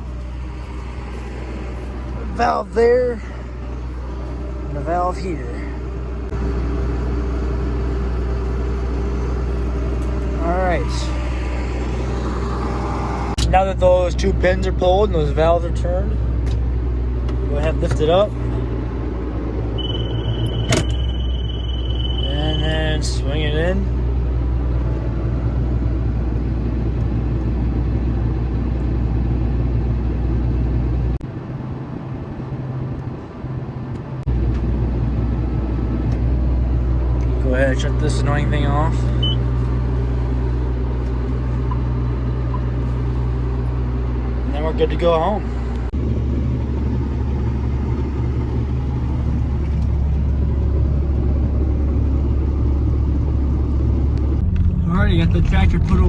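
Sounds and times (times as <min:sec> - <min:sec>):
tractor engine humming: 0:00.0 - 0:31.2, 0:33.7 - 0:56.0.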